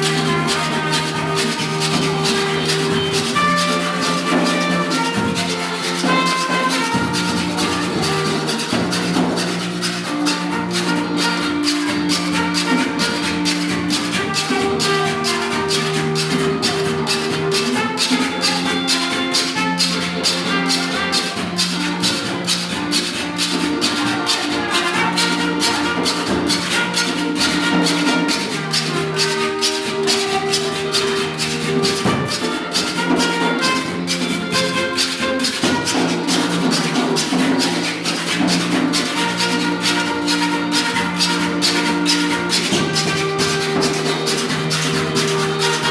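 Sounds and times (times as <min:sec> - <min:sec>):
held pitched notes: 0:00.0 - 0:45.9
saw scraped with metal tool: 0:00.0 - 0:45.9.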